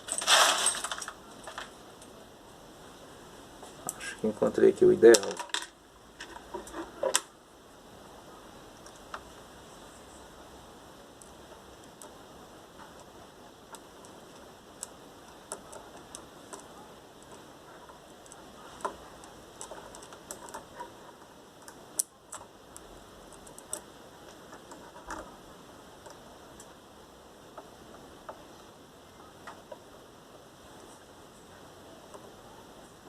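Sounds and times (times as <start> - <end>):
faint steady hiss: 0.0 - 33.0.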